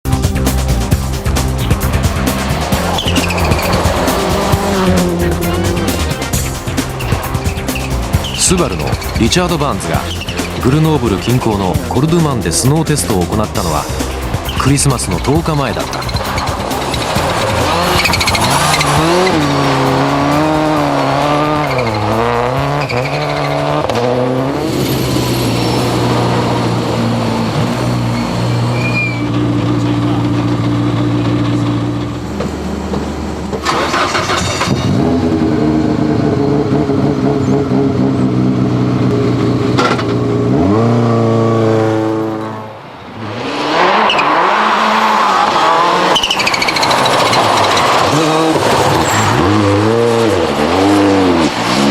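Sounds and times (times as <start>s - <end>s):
rally car engine revving: 0.1s - 51.9s.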